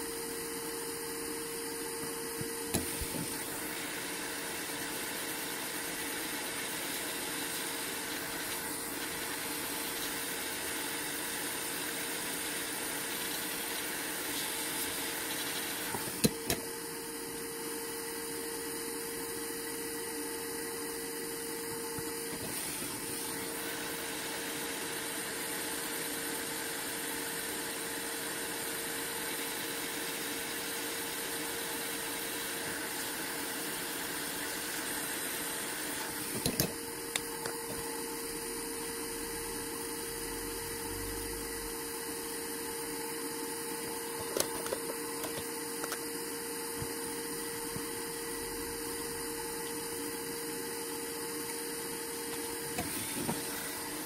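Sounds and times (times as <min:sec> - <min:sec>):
small motor humming: 0:00.0 - 0:54.0.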